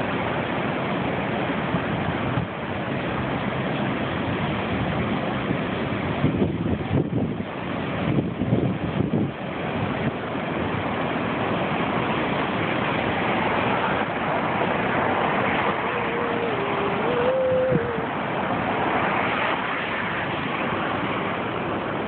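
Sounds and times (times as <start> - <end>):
ocean surf breaking: 0.0 - 22.0.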